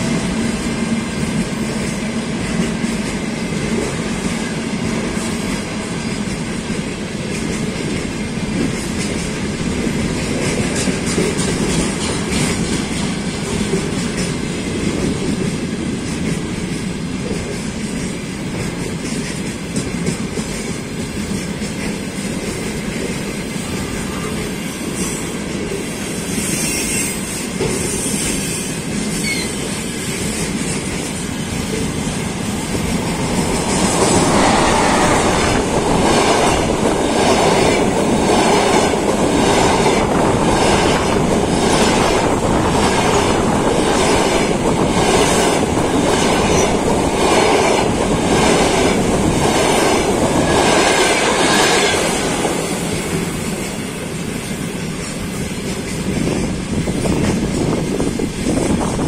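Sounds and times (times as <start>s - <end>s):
freight train rolling past: 0.0s - 59.0s
passenger train passing: 0.0s - 59.0s.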